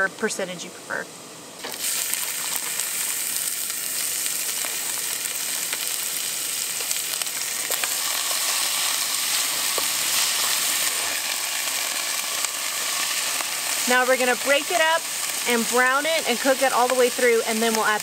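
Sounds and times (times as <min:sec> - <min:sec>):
meat and onions sizzling: 0:01.6 - 0:18.0.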